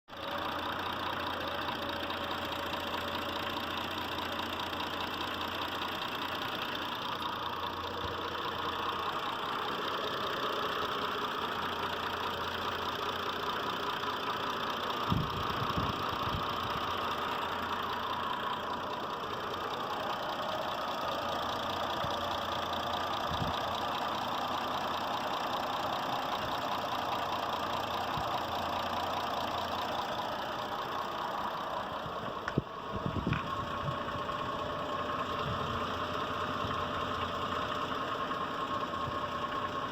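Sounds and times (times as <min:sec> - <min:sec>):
engine idling with knock: 0:00.2 - 0:39.9.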